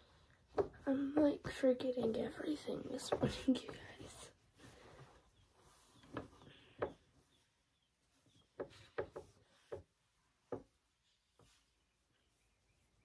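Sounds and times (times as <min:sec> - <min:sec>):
soft rubbing: 0:01.6 - 0:13.0.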